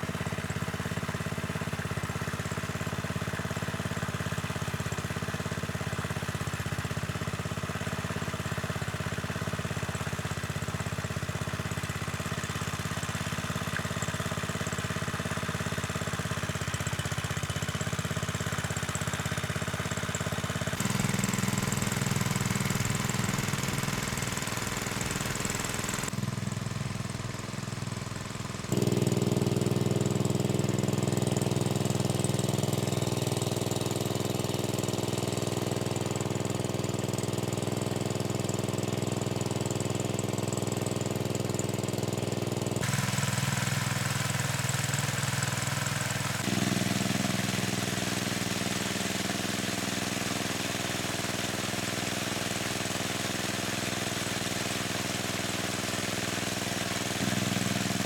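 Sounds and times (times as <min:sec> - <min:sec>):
small engine chugging: 0:00.0 - 0:58.0.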